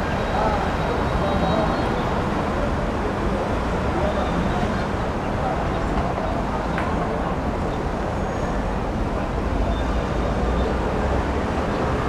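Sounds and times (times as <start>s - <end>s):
city road traffic rumble: 0.0s - 12.0s.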